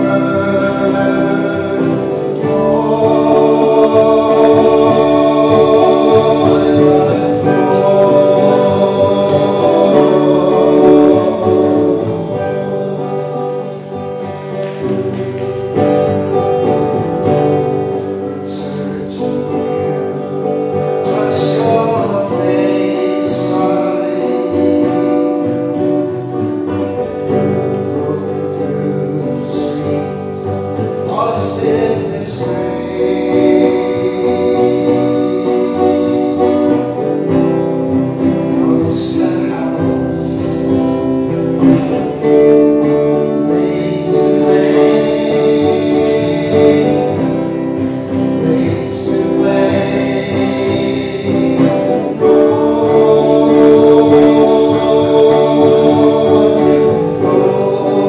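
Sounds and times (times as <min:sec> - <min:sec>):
guitar: 0:00.0 - 0:58.0
person singing: 0:00.0 - 0:58.0.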